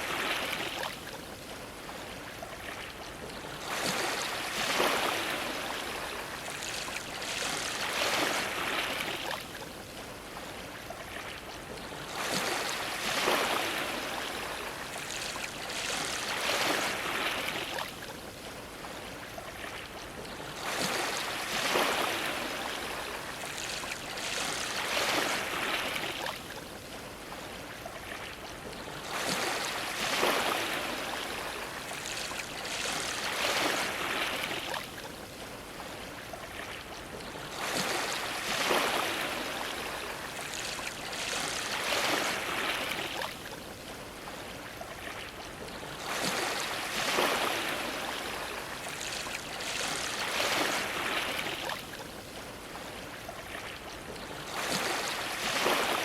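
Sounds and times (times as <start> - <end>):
waves washing against dock: 0.0 - 56.0.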